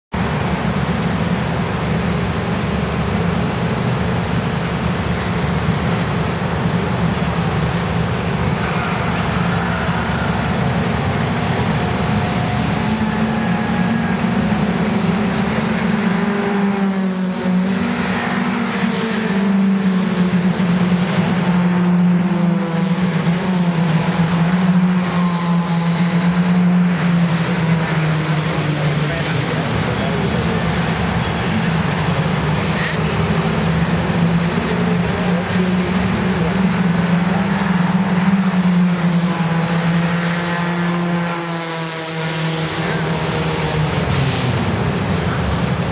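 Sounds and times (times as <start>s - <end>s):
cars speeding past: 0.1s - 45.9s
race car engines revving: 0.1s - 45.9s.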